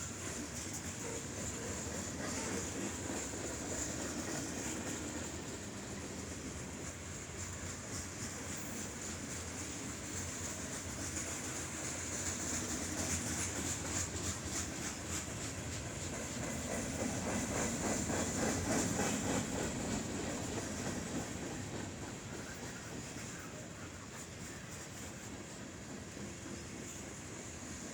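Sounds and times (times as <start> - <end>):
freight train wheels clicking: 0.0 - 27.9.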